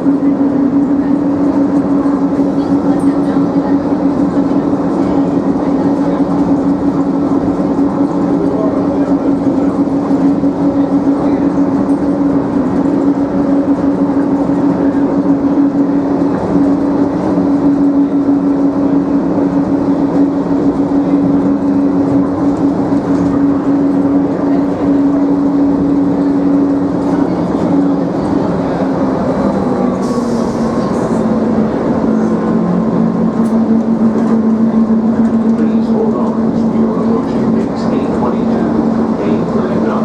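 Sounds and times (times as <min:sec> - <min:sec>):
constant low hum: 0:00.0 - 0:40.0
train ride noise: 0:00.0 - 0:40.0.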